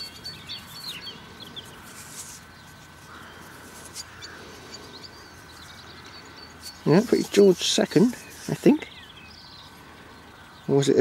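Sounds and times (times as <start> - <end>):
faint outdoor ambience: 0.0 - 11.0
small birds chirping: 0.0 - 11.0.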